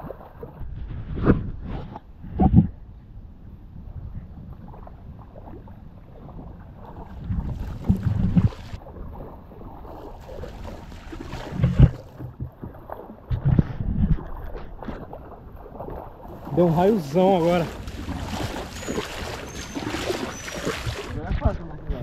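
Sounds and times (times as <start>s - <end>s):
footsteps sloshing through water: 0.0s - 0.7s, 4.3s - 21.8s
wind buffeting microphone: 0.5s - 22.0s.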